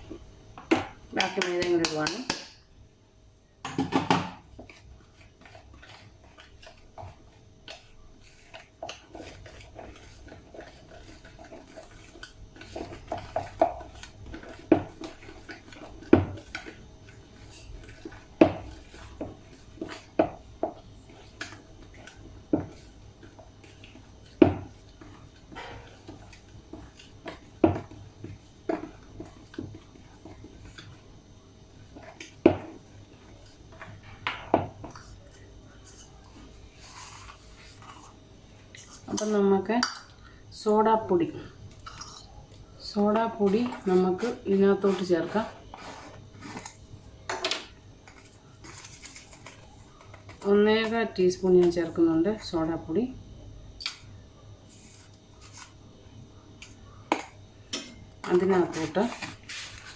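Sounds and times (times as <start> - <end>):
spoon scraping mixing bowl: 4.4 - 40.1, 41.7 - 52.9, 54.6 - 55.8, 56.6 - 59.9.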